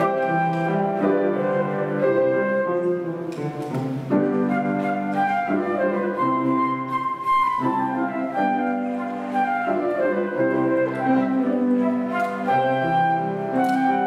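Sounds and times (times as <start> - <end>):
flute melody: 0.0 - 14.0
piano accompaniment: 0.0 - 14.0.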